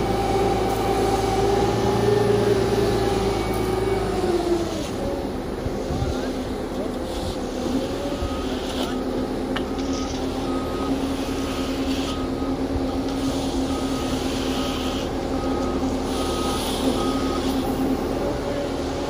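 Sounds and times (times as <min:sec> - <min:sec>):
truck backup alarm beeping: 0:00.0 - 0:04.9, 0:07.7 - 0:18.9
diesel engine running: 0:00.0 - 0:19.0.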